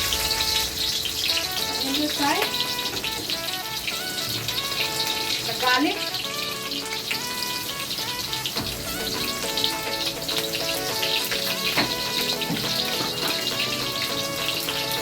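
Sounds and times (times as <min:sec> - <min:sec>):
background music with held notes: 0:00.0 - 0:15.0
onion and garlic sizzling in oil: 0:00.0 - 0:15.0.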